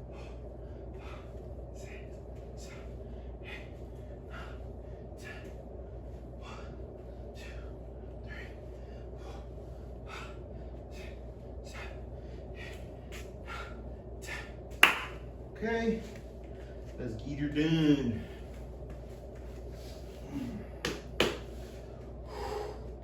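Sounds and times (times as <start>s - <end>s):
man breathing: 0.0s - 14.8s, 18.1s - 23.0s
low room hum: 0.0s - 23.0s.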